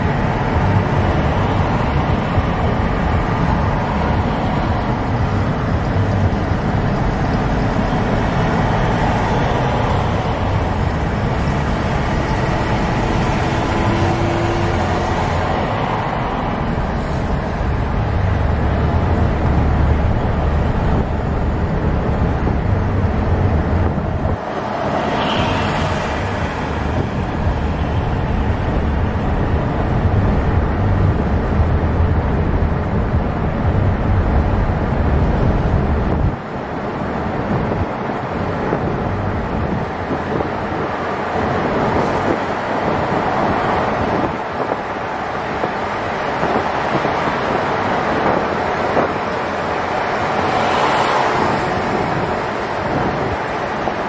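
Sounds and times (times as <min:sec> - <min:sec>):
car engine and tyre rumble: 0:00.0 - 0:54.0
surrounding traffic: 0:00.0 - 0:54.0.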